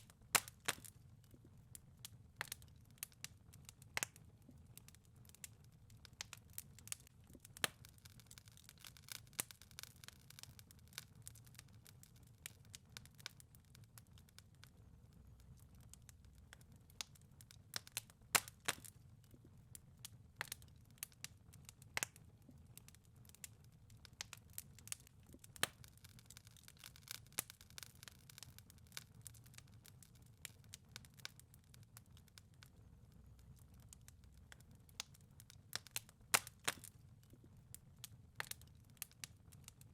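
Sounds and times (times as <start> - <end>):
fire pops and snaps: 0.0 - 39.9
wood fire crackling: 0.0 - 39.9.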